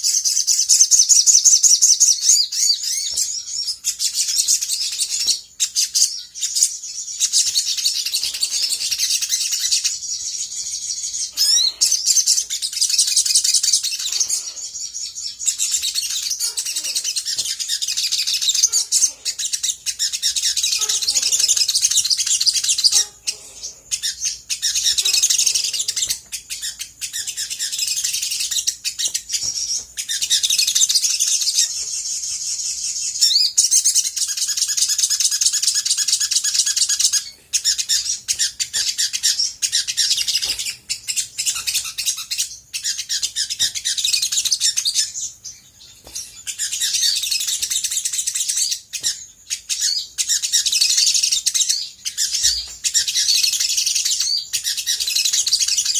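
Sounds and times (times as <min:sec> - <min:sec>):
sunbird high chirps and trills: 0:00.0 - 0:55.9.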